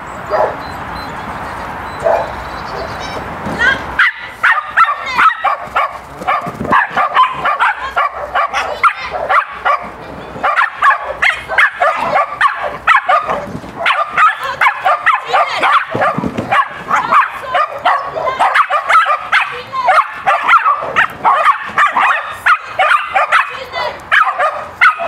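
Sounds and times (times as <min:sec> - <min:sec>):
dog barking and yipping: 0:00.3 - 0:00.7, 0:01.9 - 0:03.0, 0:04.0 - 0:25.0.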